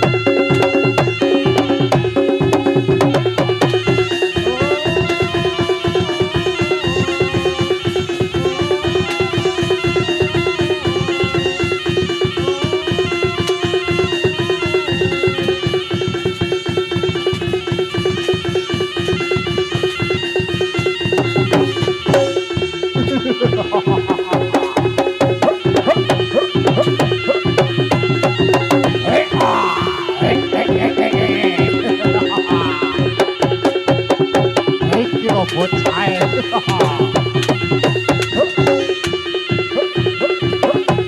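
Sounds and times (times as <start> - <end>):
fast drumming and percussion: 0.0 - 41.0
reedy shawm melody: 0.0 - 41.0.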